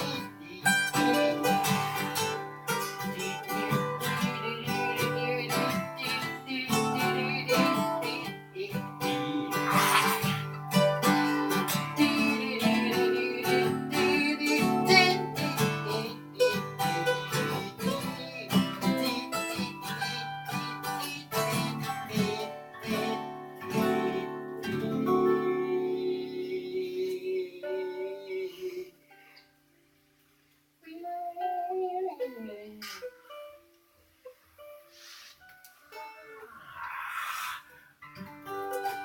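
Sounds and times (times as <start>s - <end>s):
acoustic guitar playing: 0.0s - 36.5s, 38.0s - 39.0s.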